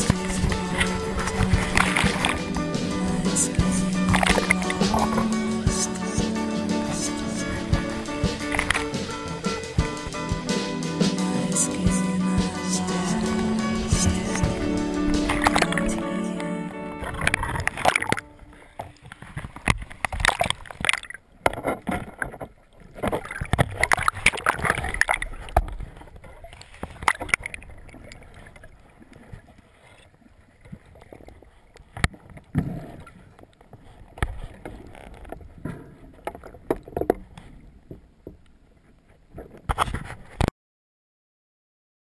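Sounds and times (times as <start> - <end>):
underwater wash: 0.0 - 40.4
water sloshing and splashing: 0.0 - 40.4.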